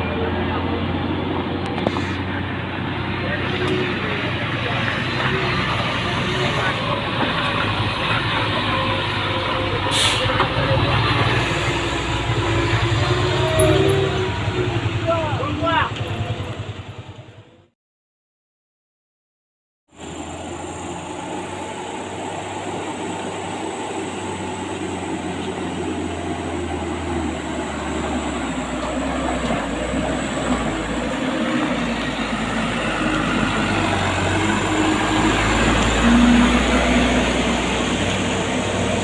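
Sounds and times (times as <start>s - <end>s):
diesel truck engine labouring: 0.0s - 17.7s, 20.0s - 39.0s.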